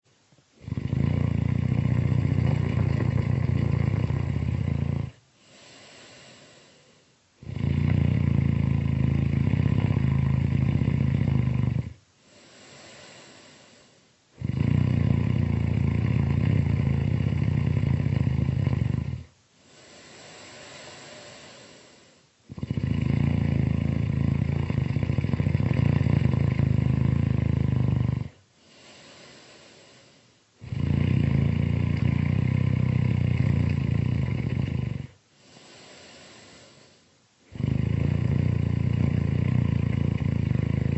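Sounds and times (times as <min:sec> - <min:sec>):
loud snoring: 0:00.6 - 0:40.9.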